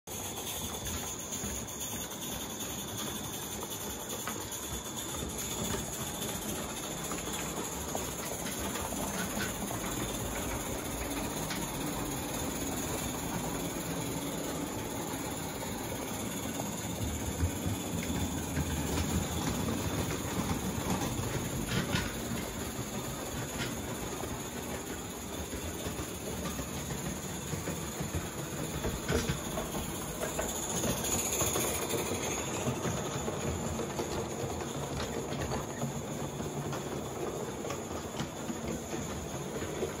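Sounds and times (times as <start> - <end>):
steam hiss: 0.1 - 40.0
wheels clicking on rails: 0.1 - 40.0.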